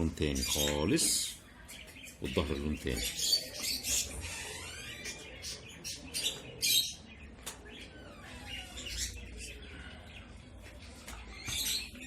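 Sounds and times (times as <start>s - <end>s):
parrots chirping: 0.2s - 12.0s.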